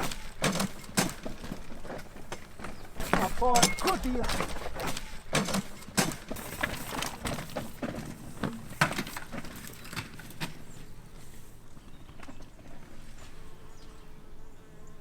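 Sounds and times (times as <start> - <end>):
mountain bikes clattering over rocks: 0.0 - 13.5.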